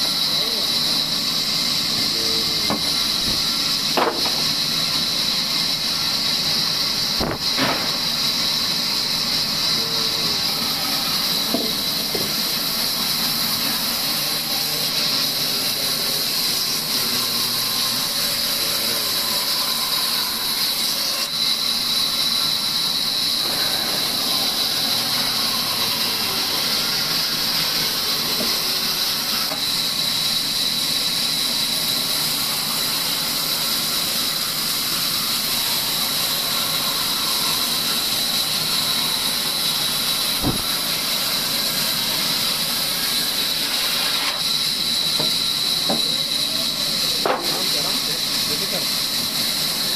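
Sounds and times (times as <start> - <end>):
band saw cutting wood: 0.0 - 49.9.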